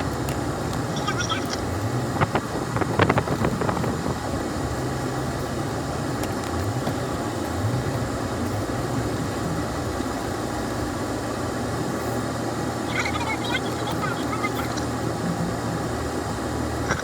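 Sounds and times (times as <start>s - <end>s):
vehicle engine running at low revs: 0.0s - 17.0s.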